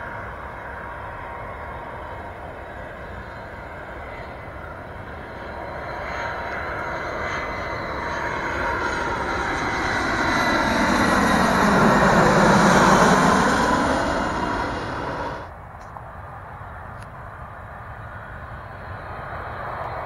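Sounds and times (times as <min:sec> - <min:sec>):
jet airliner engines: 0:00.0 - 0:20.0.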